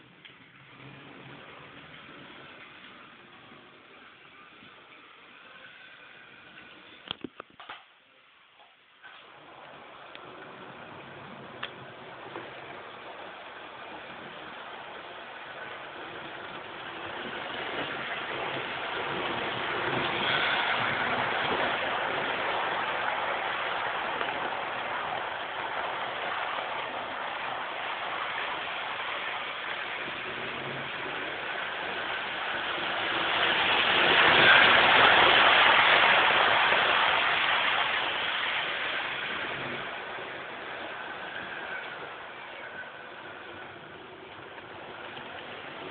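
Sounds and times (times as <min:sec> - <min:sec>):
model train rushing on track: 0:00.0 - 0:07.2, 0:09.0 - 0:45.9.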